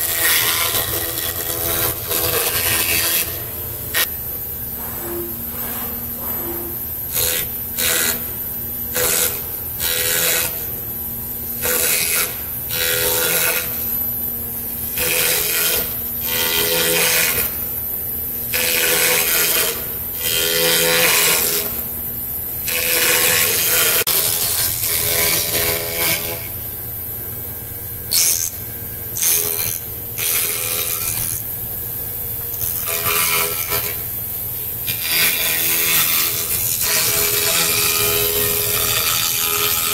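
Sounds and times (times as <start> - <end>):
cnc spindle cutting wood: 0.0 - 39.9
steady machine hum: 0.0 - 39.9.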